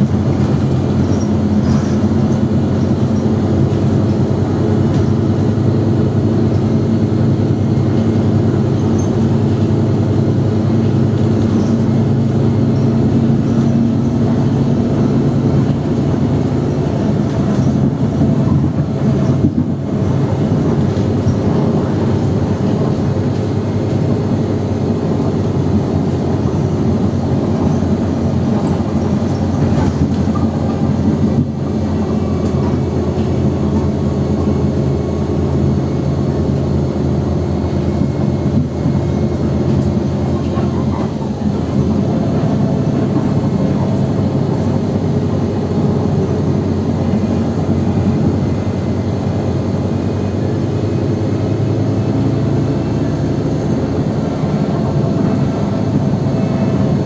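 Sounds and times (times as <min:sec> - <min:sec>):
diesel bus engine idling: 0:00.0 - 0:57.0.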